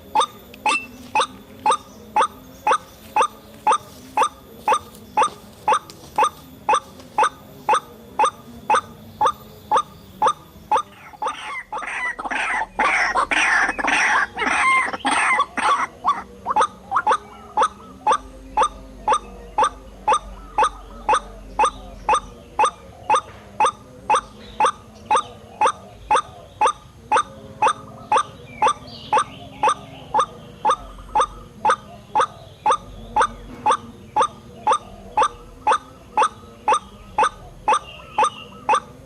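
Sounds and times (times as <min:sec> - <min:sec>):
rough noisy flurry of gliding calls: 0:00.0 - 0:39.0.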